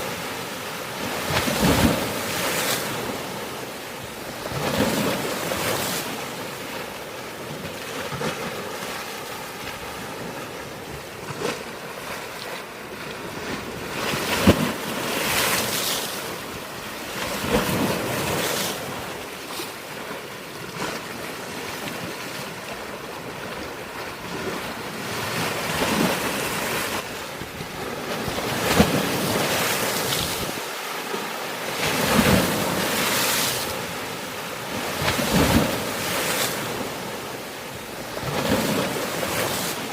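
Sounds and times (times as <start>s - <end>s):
surf washing: 0.0s - 39.9s
waves splashing on rocks: 0.0s - 39.9s.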